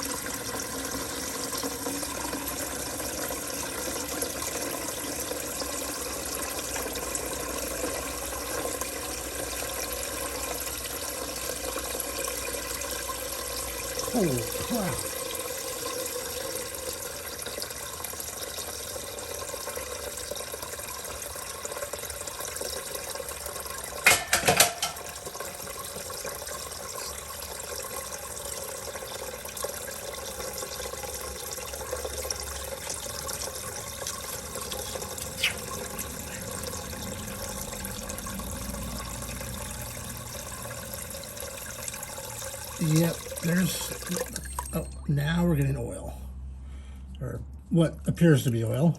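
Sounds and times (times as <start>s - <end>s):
water pouring into a pan: 0.0s - 45.0s.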